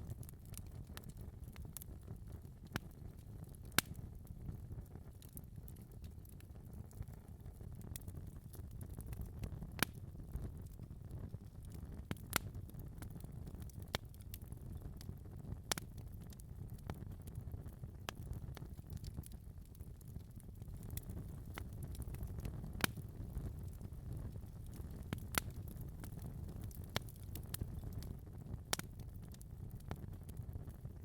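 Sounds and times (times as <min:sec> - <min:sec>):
fire crackles and pops: 0:00.0 - 0:31.0
wood fire burning: 0:00.0 - 0:31.0.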